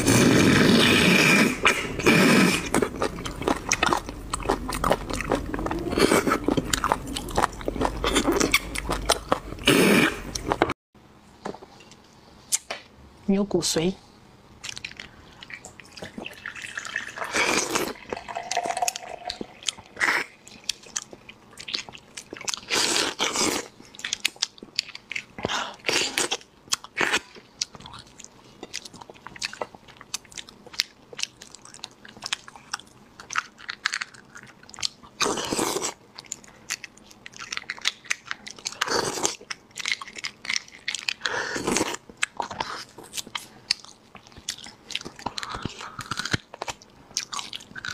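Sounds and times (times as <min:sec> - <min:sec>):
wet chewing: 0:00.0 - 0:10.7, 0:14.6 - 0:47.9.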